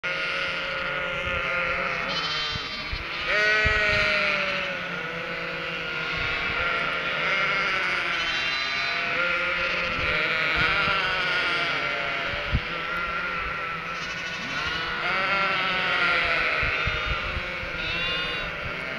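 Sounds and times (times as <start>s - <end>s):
sheep and lambs bleating: 0.0s - 18.9s.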